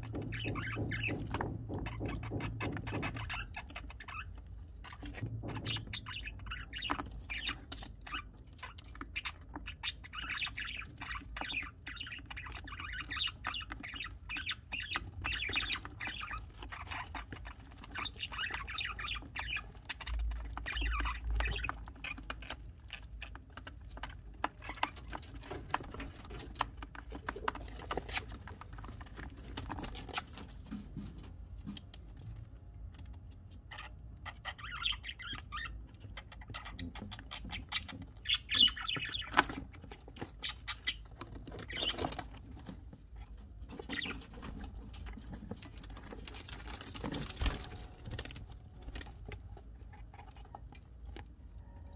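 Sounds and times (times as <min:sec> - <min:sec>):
bird chicks chirping and squawking: 0:00.0 - 0:51.9.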